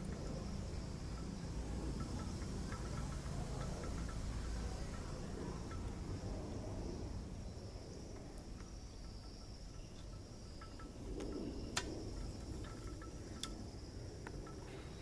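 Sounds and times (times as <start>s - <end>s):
faint high-pitched chirring: 0.0s - 15.0s.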